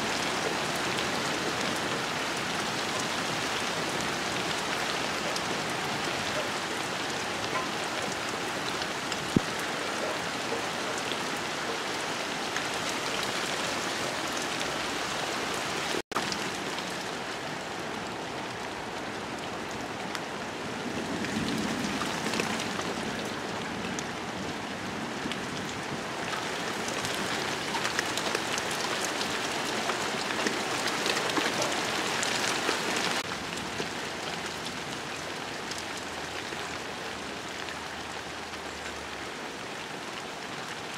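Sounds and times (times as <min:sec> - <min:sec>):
heavy rain on leaves and water: 0:00.0 - 0:40.9.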